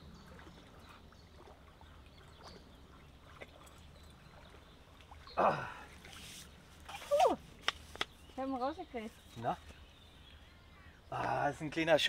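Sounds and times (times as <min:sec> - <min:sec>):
light water splashes: 0:00.0 - 0:12.0.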